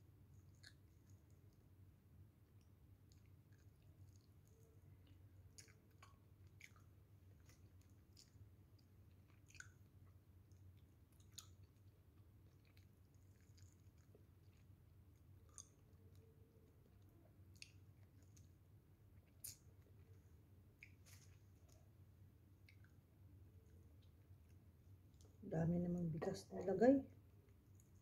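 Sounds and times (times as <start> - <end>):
faint chewing: 0.2 - 25.4, 27.1 - 28.0.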